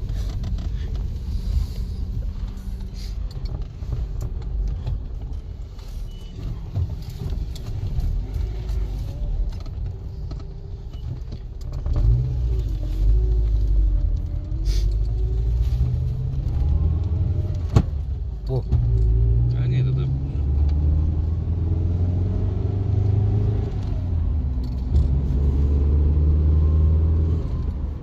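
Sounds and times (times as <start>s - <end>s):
car engine running and revving: 0.0s - 28.0s.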